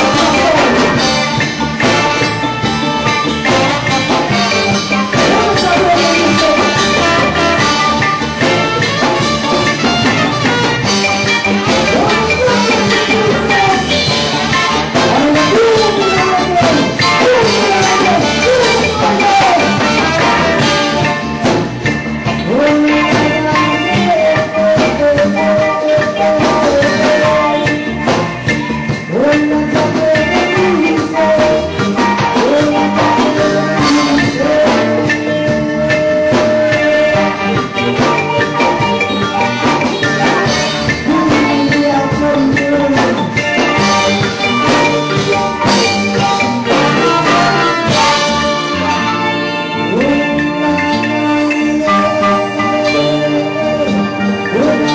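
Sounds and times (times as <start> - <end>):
reggae band playing live: 0.0 - 54.9.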